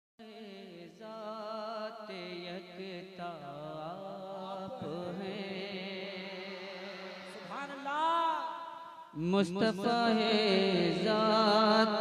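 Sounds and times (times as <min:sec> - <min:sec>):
man singing wordless melody: 0:00.2 - 0:12.0.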